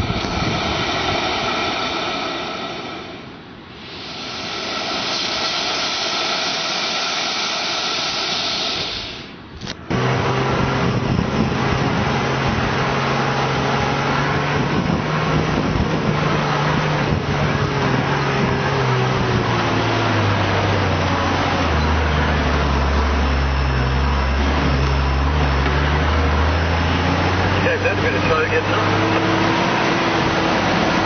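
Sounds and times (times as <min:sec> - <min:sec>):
wind noise: 0:00.0 - 0:25.2
vehicle engine hum: 0:00.0 - 0:31.0.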